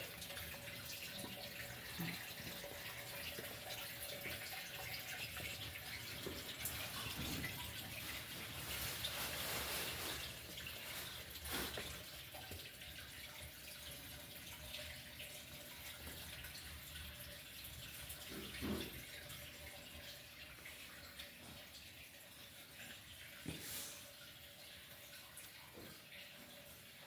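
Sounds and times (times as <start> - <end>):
water running and trickling: 0.0 - 27.0.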